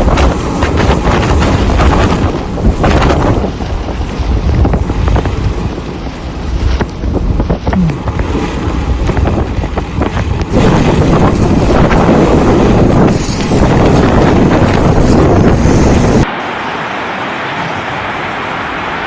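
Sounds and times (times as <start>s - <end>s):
wind buffeting microphone: 0.0s - 16.3s
rushing floodwater: 0.0s - 19.0s.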